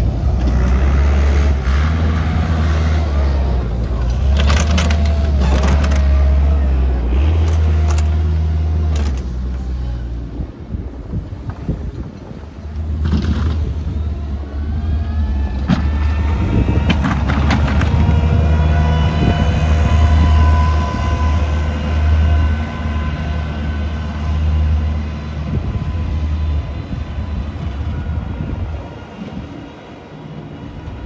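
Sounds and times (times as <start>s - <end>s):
diesel engine droning: 0.0s - 31.0s
engine whine: 0.0s - 31.0s.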